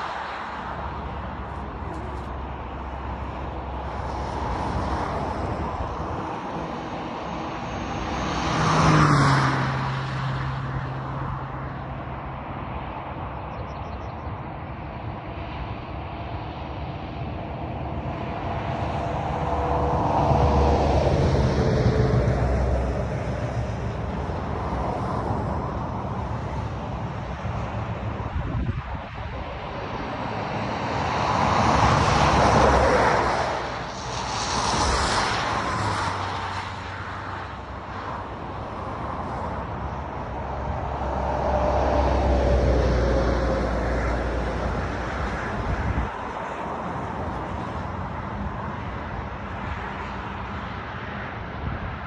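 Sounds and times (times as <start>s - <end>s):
road noise: 0.0s - 52.0s
vehicles passing: 0.0s - 52.0s.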